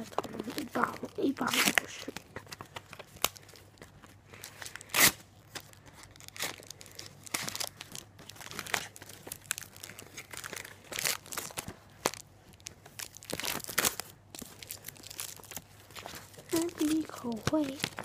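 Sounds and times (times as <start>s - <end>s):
foil wrapper crinkling: 0.0s - 18.0s.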